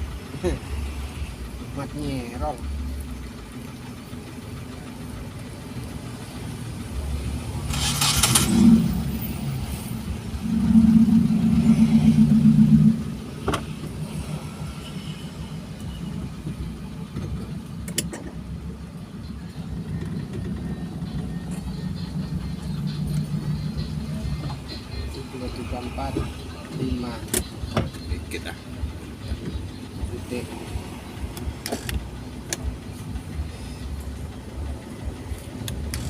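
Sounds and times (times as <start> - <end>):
car engine and road rumble: 0.0 - 36.0
pulsing low buzz: 2.6 - 17.0, 18.4 - 36.0.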